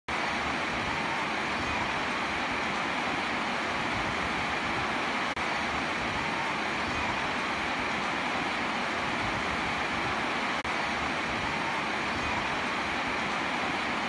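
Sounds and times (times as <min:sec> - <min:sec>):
rain on a roof: 0:00.1 - 0:14.0
water running off roof: 0:00.1 - 0:14.0.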